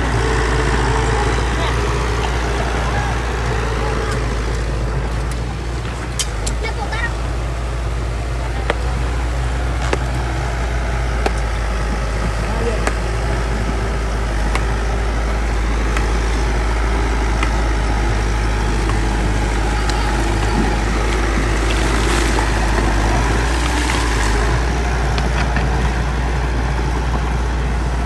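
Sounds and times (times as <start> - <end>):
bulldozer engine rumbling: 0.0 - 28.0.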